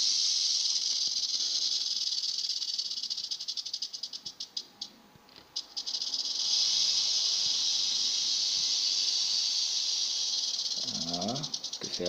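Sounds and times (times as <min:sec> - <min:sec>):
rattlesnake tail rattling: 0:00.0 - 0:04.8, 0:05.4 - 0:12.0.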